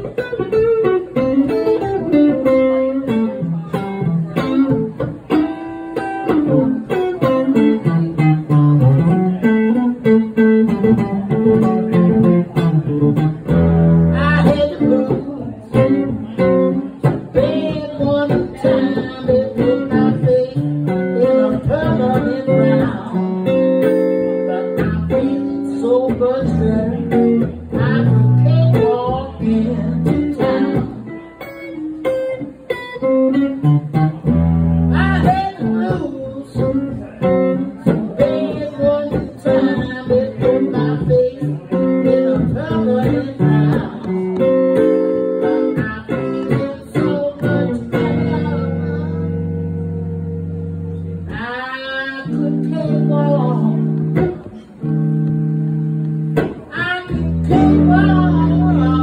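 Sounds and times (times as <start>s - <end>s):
electric guitar playing: 0.0s - 59.0s.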